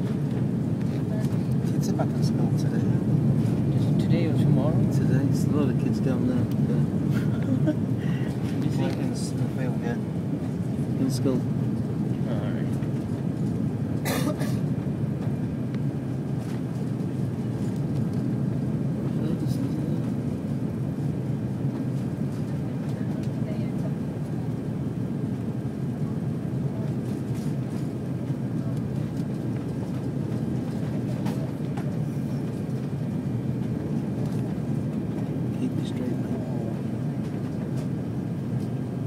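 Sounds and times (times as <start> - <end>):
airliner cabin engine rumble: 0.0 - 39.0.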